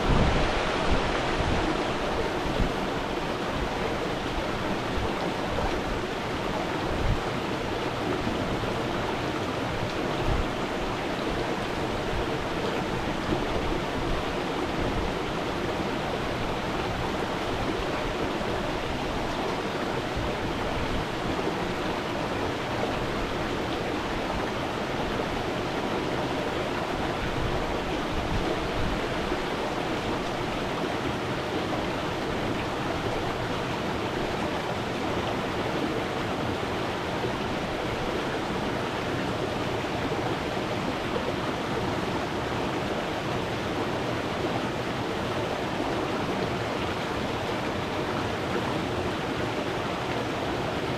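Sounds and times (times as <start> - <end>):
stream water burbling: 0.0 - 50.9.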